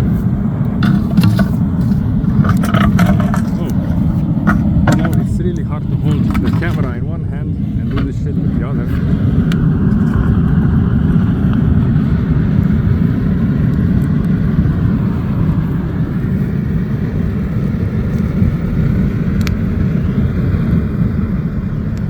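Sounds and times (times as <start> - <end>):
fire crackling: 0.0 - 22.0
furnace roaring with blower: 0.0 - 22.0.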